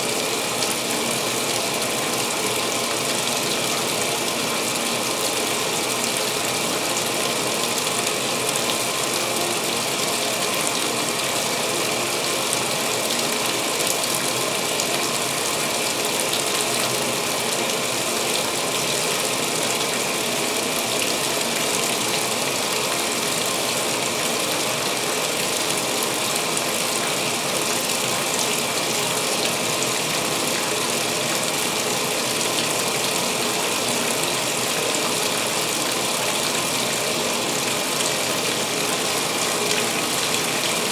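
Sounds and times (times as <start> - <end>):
water pouring into washer tub: 0.0 - 40.9.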